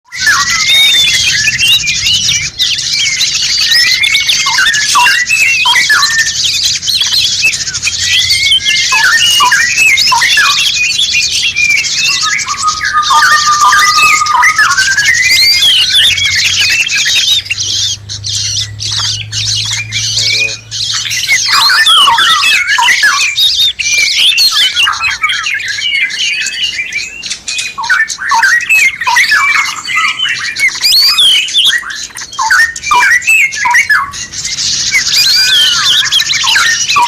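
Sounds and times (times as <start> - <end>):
bird trill: 0.0 - 37.0
songbirds chirping: 0.0 - 37.0.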